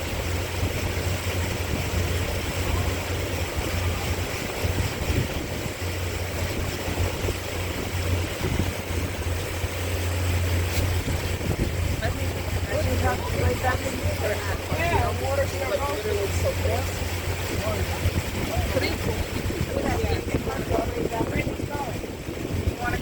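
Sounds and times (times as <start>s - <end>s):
boat engine droning: 0.0s - 23.0s
water noise: 0.0s - 23.0s
wind: 0.0s - 23.0s.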